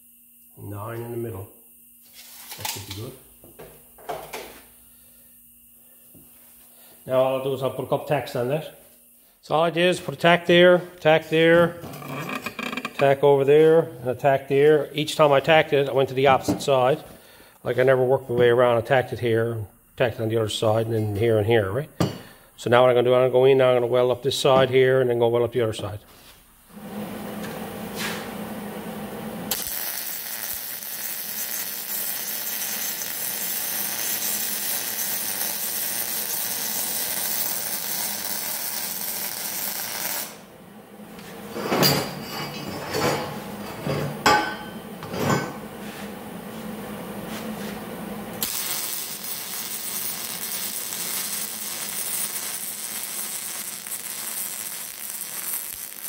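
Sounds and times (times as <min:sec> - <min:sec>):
welder arc crackling and hissing: 0:00.0 - 0:56.0.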